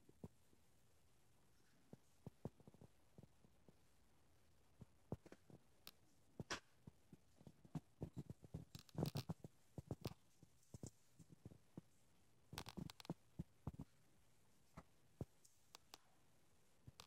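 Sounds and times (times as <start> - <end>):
faint clicks and taps: 1.5 - 3.9, 4.7 - 16.2.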